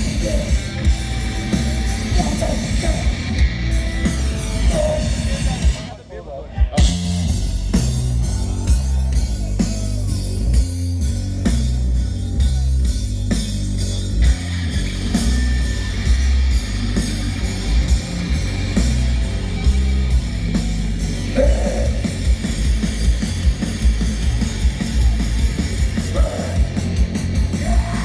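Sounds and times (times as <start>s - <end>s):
hardcore band playing live: 0.0s - 28.0s.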